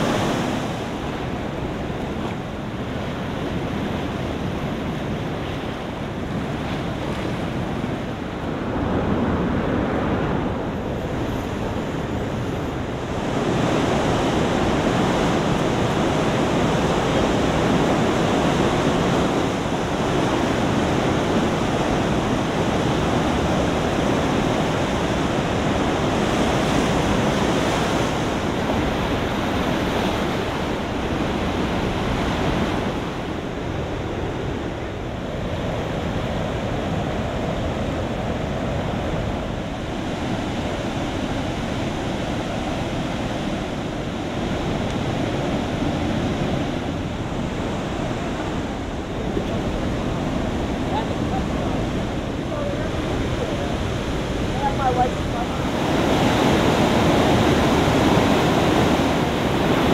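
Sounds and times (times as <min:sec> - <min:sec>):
river rushing through rapids: 0:00.0 - 0:59.9.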